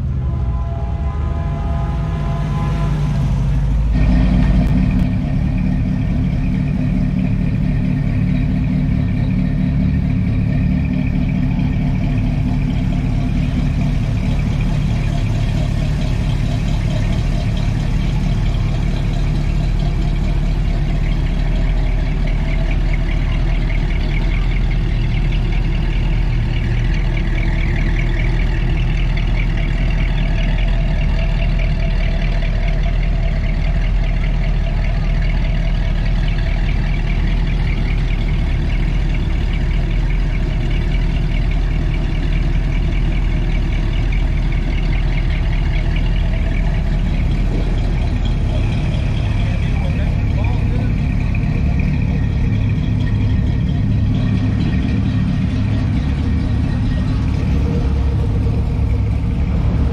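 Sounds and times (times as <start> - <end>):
car engines idling: 0.0 - 59.9.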